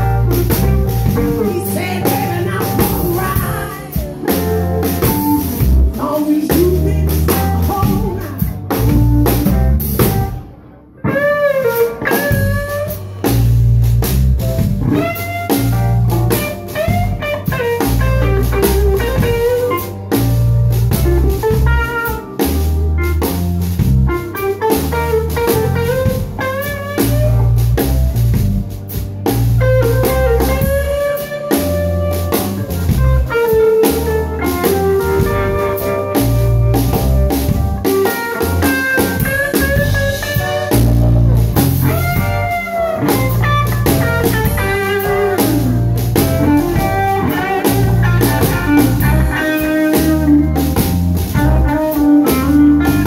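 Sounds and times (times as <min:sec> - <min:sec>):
bass line: 0:00.0 - 0:53.0
drum kit: 0:00.0 - 0:53.0
electric guitar lead: 0:00.0 - 0:53.0.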